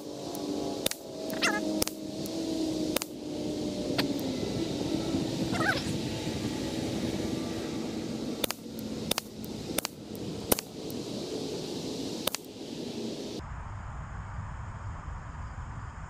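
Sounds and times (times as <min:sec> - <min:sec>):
background hiss: 0:00.0 - 0:13.4.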